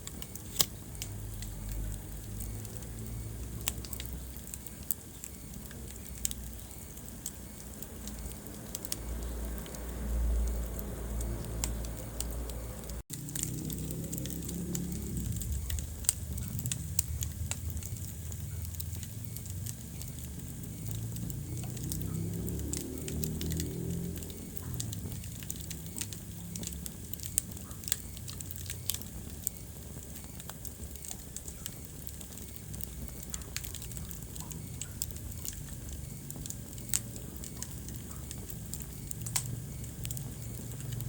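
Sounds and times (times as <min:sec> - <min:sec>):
sharp pops and snaps: 0:00.0 - 0:41.0
wood fire crackling: 0:00.0 - 0:41.0.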